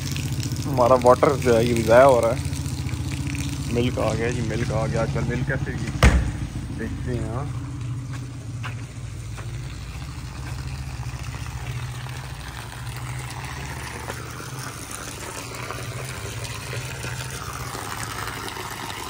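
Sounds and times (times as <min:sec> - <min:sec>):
low motor hum: 0:00.0 - 0:19.0
water running and splashing: 0:00.0 - 0:19.0.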